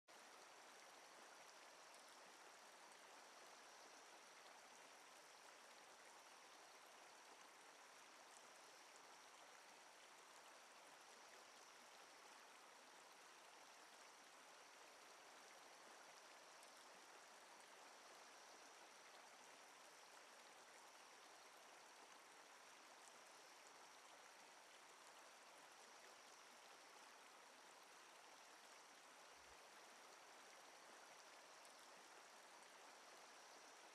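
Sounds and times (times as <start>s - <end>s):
faint steady hiss: 0.1s - 33.9s.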